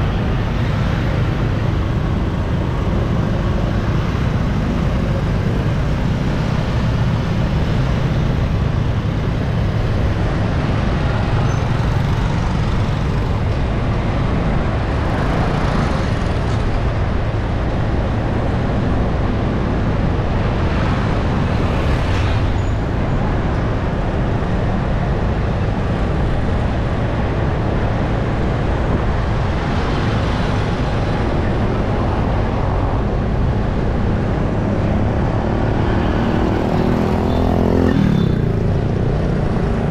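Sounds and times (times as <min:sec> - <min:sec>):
low rumble of traffic: 0:00.0 - 0:39.9
vehicles passing close by: 0:00.0 - 0:39.9.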